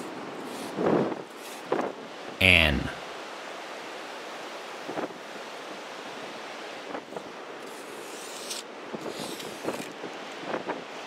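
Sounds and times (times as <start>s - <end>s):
ocean surf on a beach: 0.0s - 11.0s.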